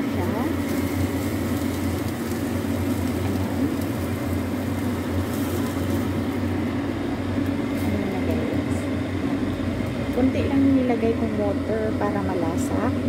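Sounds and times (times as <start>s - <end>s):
pot of water boiling: 0.0s - 13.0s.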